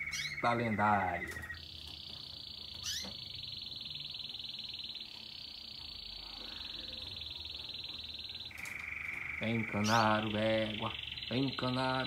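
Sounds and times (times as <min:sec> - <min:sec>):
canary trilling: 0:00.0 - 0:12.0.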